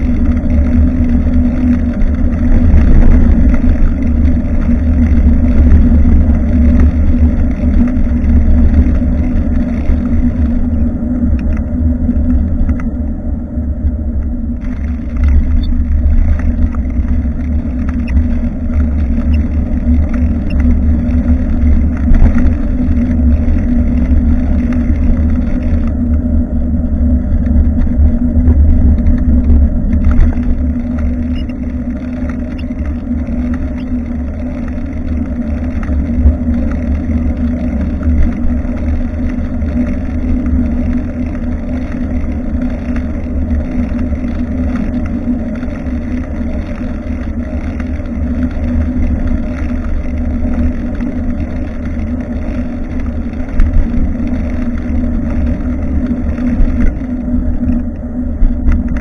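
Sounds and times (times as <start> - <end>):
small rattles: 0.0 - 12.9, 14.6 - 26.3, 27.0 - 59.0
bicycle road vibration: 0.0 - 59.0
low wind rumble: 0.0 - 59.0.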